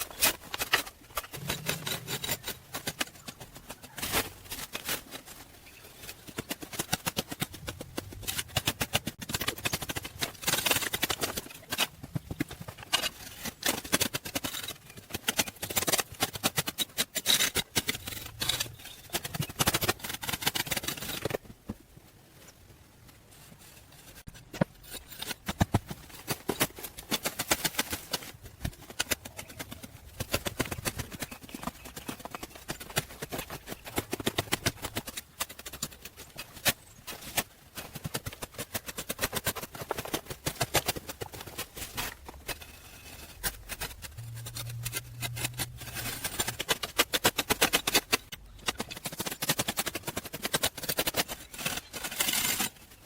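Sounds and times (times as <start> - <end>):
hand tools knocking and scraping: 0.0 - 21.8, 24.0 - 53.0.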